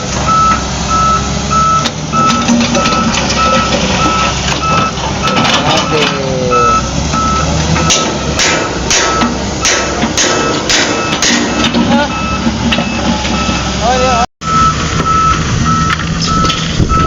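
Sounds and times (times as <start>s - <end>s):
higher-pitched beeper: 0.0s - 8.4s, 10.4s - 17.0s
reversing alarm beeping: 0.0s - 17.0s.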